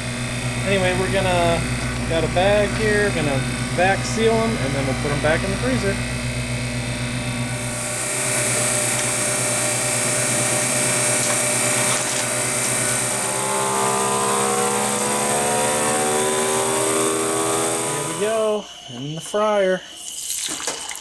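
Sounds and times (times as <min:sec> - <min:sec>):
freeze dryer humming: 0:00.0 - 0:21.0
vacuum sealer pump running: 0:00.0 - 0:21.0.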